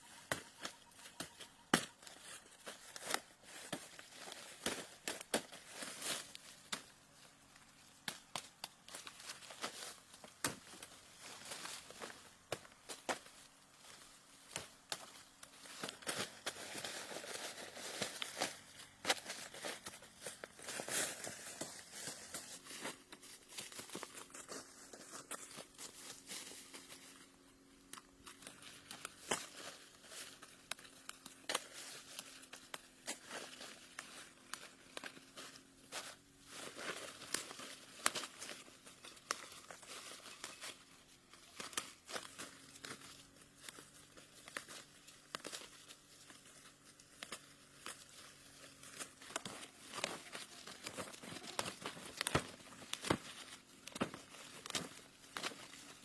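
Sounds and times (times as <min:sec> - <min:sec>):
crinkling and rustling: 0:00.0 - 0:56.0.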